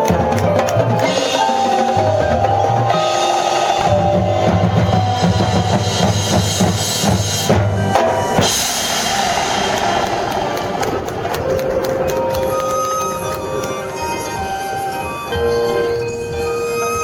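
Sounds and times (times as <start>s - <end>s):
sustained brass and wind notes: 0.0s - 17.0s.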